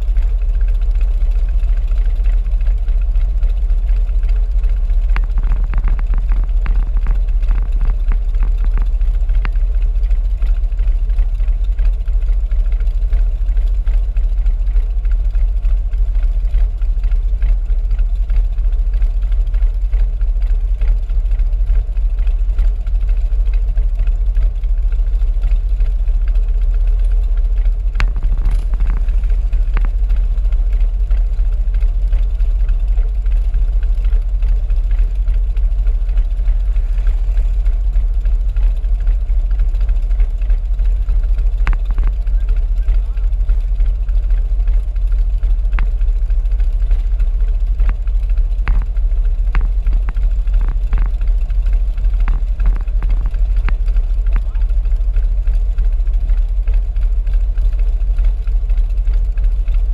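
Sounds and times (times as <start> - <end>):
motorcycles idling: 0.0 - 59.9.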